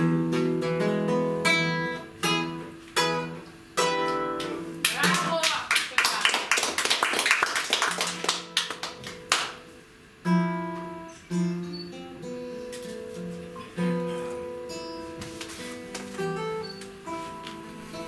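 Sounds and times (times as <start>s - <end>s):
classical guitar chords: 0.0s - 5.7s, 8.1s - 18.0s.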